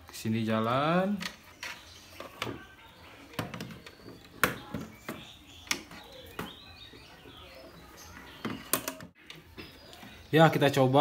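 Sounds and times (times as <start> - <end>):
faint bird chirps: 1.2 - 11.0.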